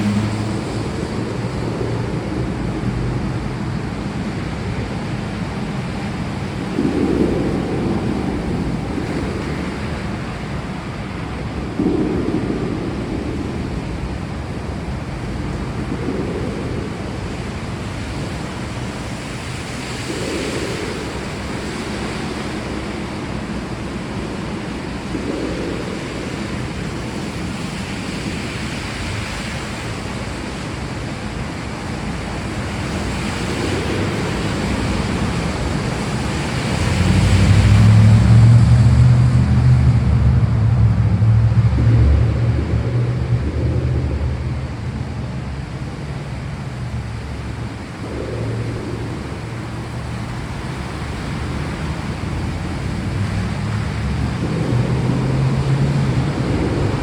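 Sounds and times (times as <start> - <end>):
rain: 0.0 - 57.0
rolling thunder rumble: 0.0 - 57.0.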